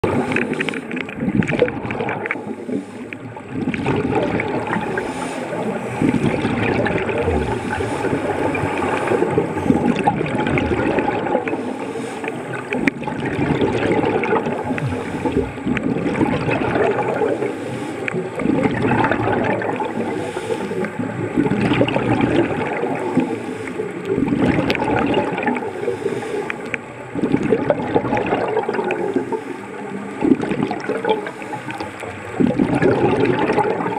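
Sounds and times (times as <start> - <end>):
underwater bubbling and gurgling: 0.0 - 33.9.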